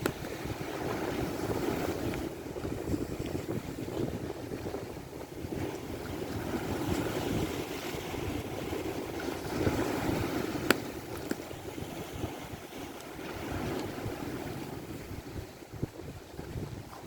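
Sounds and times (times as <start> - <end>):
waves lapping: 0.0 - 17.0
wind buffeting microphone: 0.0 - 17.0.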